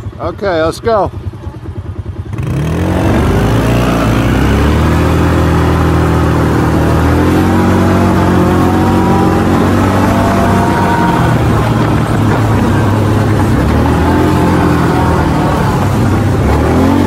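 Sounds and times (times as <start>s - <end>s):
small atv engine: 0.0s - 17.0s
wind and road noise: 0.0s - 17.0s.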